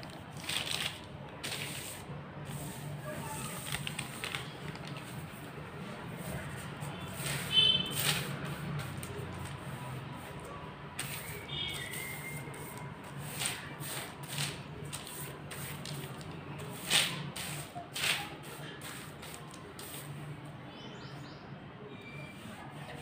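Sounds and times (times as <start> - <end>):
plastic sheet rustling and crinkling: 0.0 - 20.0.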